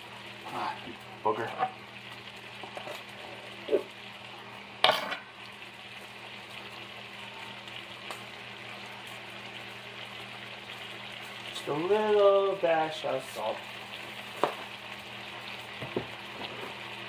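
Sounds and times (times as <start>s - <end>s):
mushrooms sizzling in a frying pan: 0.0s - 17.0s.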